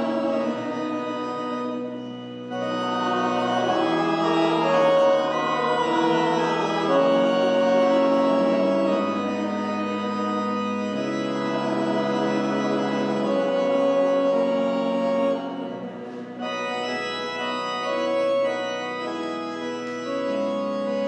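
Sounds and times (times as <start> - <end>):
organ playing slow chords: 0.0 - 21.0.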